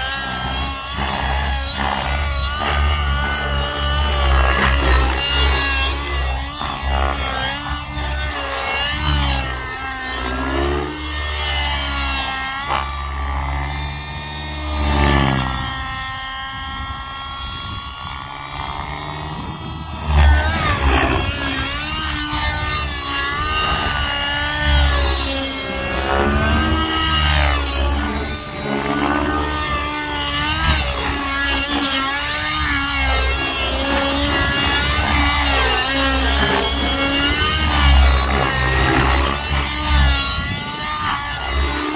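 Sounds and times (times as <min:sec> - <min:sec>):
helicopter rotor beating: 0:00.0 - 0:41.9
model helicopter engine: 0:00.0 - 0:41.9.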